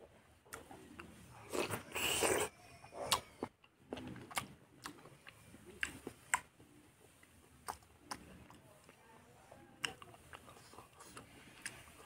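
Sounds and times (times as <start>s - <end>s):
person chewing food: 0.4s - 9.0s, 9.8s - 12.0s.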